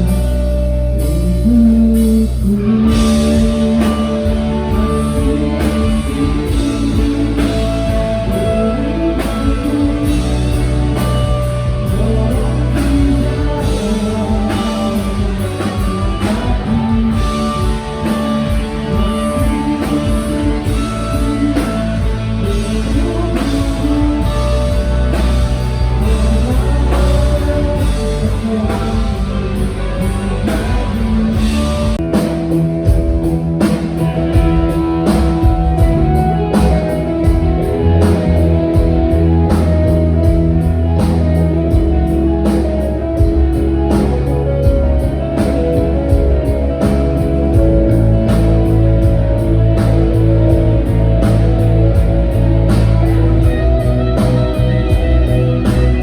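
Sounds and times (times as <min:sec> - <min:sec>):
electric guitar: 0:00.0 - 0:56.0
drum kit beat: 0:01.0 - 0:56.0.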